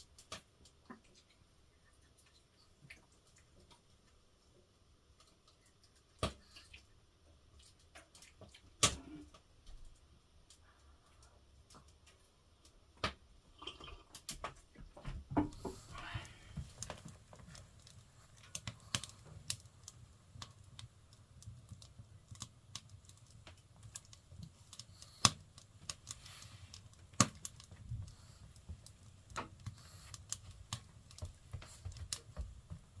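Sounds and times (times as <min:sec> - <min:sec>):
firewood crackling and popping: 0:00.0 - 0:01.3, 0:05.2 - 0:06.9, 0:07.5 - 0:33.0.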